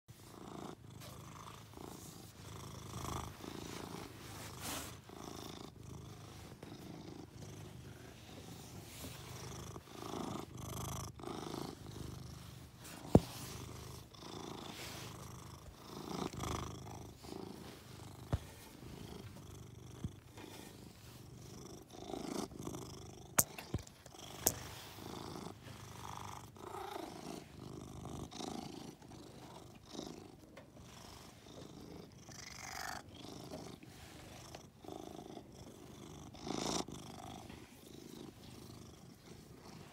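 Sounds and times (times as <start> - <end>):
cat purring: 0.1 - 39.9.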